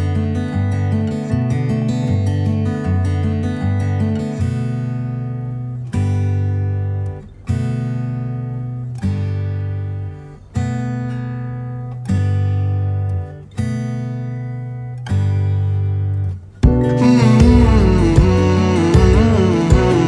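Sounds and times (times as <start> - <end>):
acoustic guitar chords strummed: 0.0 - 20.0.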